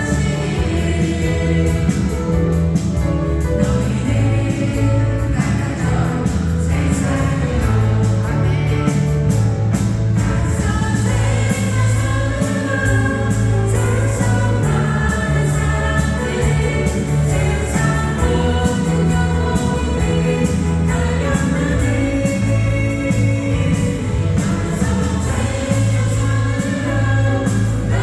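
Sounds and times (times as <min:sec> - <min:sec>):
band with bass and cymbals: 0:00.0 - 0:28.0
people singing worship song: 0:00.0 - 0:28.0.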